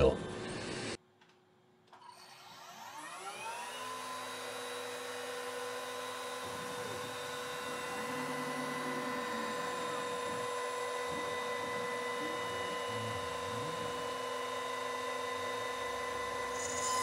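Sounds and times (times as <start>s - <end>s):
router spindle whine: 2.0s - 17.0s.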